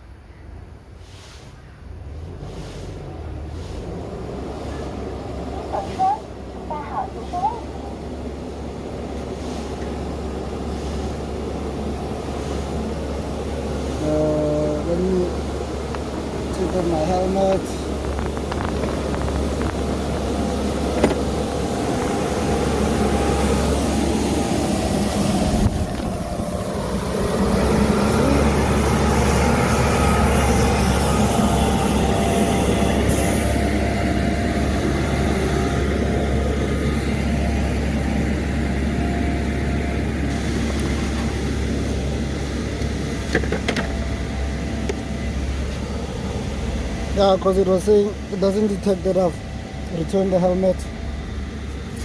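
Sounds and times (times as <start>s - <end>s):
city street traffic: 0.0s - 52.0s.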